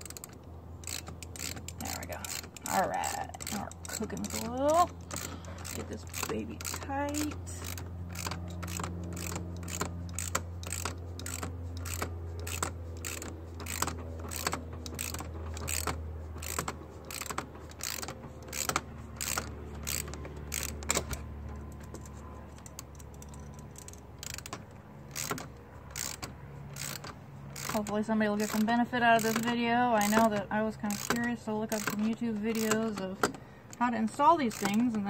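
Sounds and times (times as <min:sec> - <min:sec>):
ratchet wrench clicking: 0:00.0 - 0:35.0.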